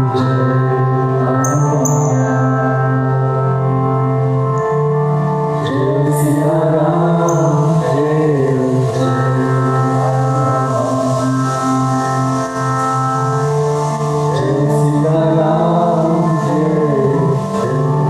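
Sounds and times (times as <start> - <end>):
person chanting: 0.0 - 3.2, 5.6 - 18.0
harmonium drone chord: 0.0 - 18.0.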